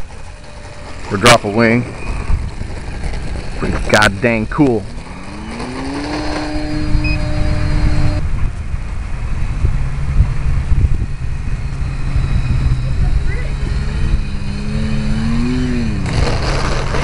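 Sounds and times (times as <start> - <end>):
electric motor and propeller whine: 0.0 - 17.0
low steady hum: 0.0 - 17.0
wind rumble on microphone: 0.0 - 17.0.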